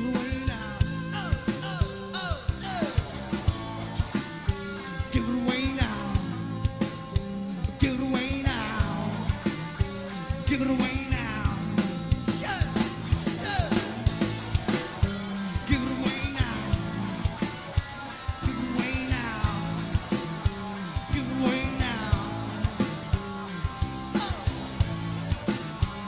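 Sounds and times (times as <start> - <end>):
person singing: 0.0 - 4.1, 4.7 - 14.2, 15.0 - 17.6, 18.3 - 24.9
bass guitar: 0.0 - 26.0
electric guitar: 0.0 - 26.0
steady drumbeat: 0.0 - 26.0.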